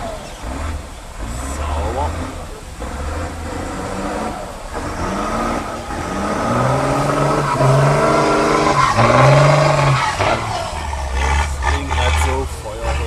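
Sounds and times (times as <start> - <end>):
diesel engine revving hard: 0.0 - 13.0.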